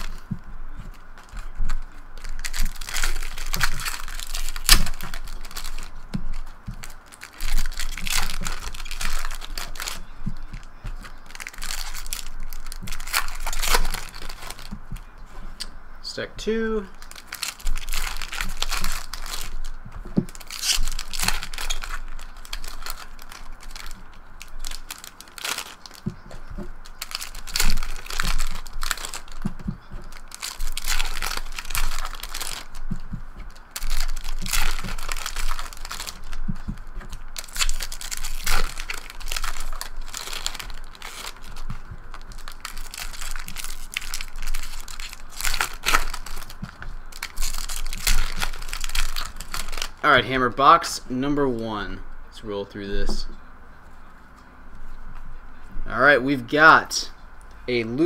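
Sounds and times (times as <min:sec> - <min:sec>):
card pack wrappers crinkling and tearing: 0:00.0 - 0:15.7, 0:16.8 - 0:50.2.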